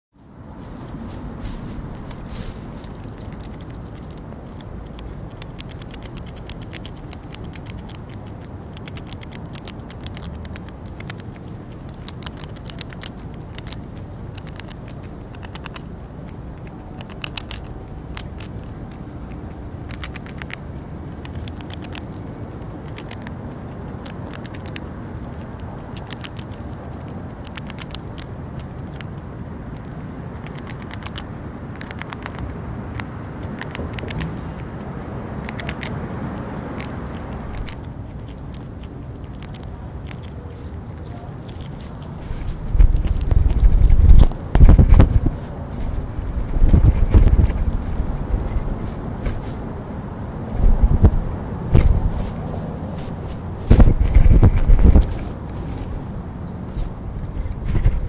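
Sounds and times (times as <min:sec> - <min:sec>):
low steady rumble: 0:00.2 - 0:58.0
squirrel crunching chip: 0:00.6 - 0:58.0.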